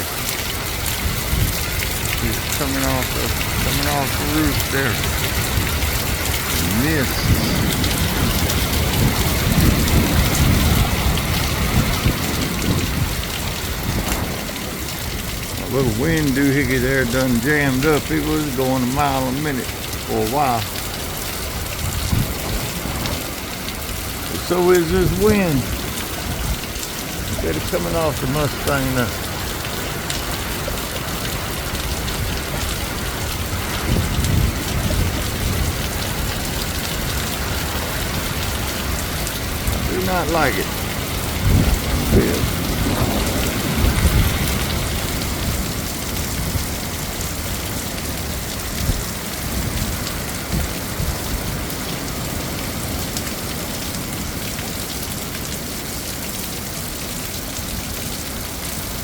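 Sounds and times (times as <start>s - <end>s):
wind rumbling on microphone: 0.0s - 19.2s, 19.9s - 54.5s
heavy rain pouring: 0.0s - 59.0s.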